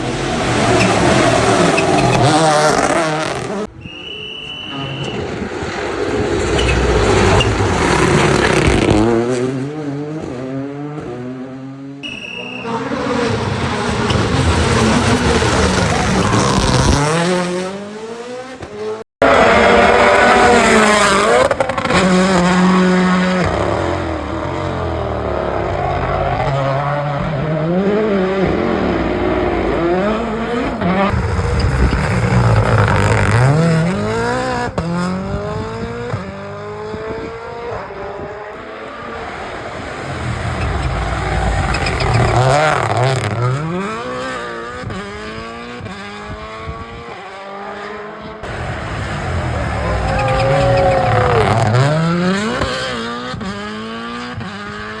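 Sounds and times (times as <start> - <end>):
rally car engines revving past: 0.0 - 4.0, 4.6 - 55.0.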